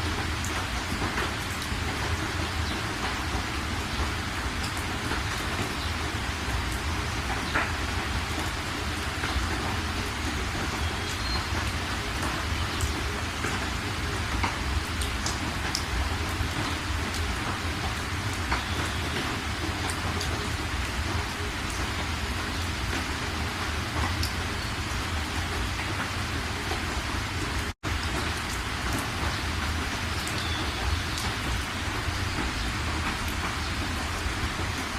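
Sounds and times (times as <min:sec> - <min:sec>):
individual raindrops landing: 0:00.0 - 0:34.9
steady rain falling: 0:00.0 - 0:34.9.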